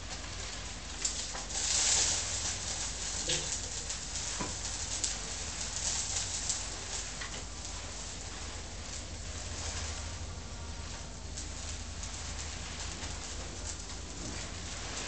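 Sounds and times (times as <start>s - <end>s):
fire hissing and crackling: 0.0s - 15.0s.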